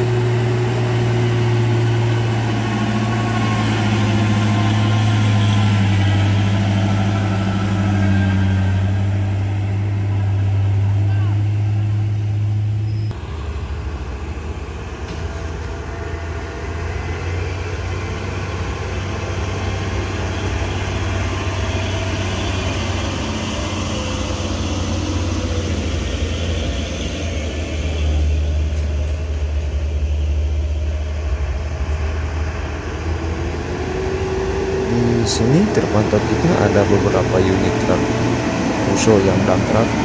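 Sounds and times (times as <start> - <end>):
diesel truck engines droning: 0.0 - 40.0.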